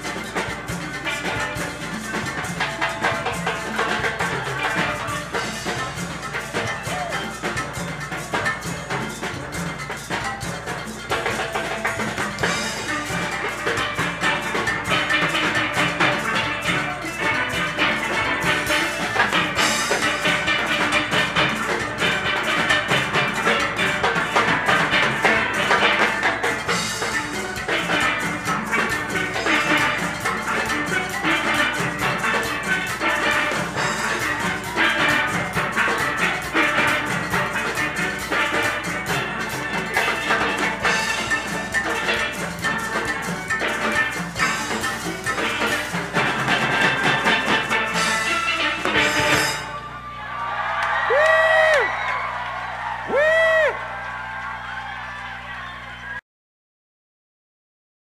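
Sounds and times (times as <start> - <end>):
steel orchestra playing: 0.0 - 55.8
drums: 0.0 - 56.2.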